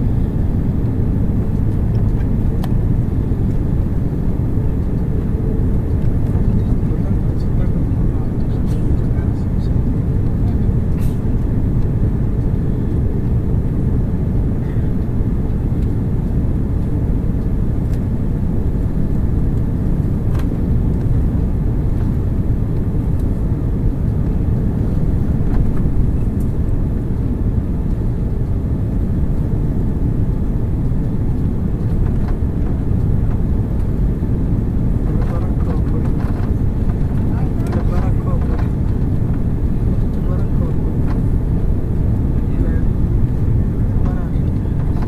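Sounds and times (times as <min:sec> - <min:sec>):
airliner cabin engine rumble: 0:00.0 - 0:45.0.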